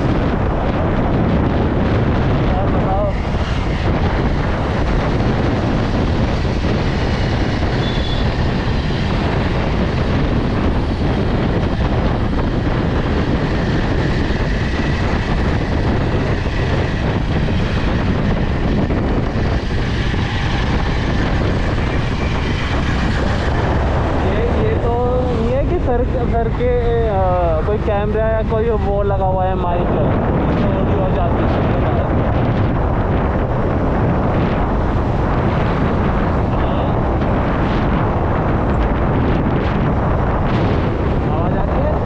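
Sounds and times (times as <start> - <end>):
road and traffic noise: 0.0 - 42.0
wind on microphone: 0.0 - 42.0.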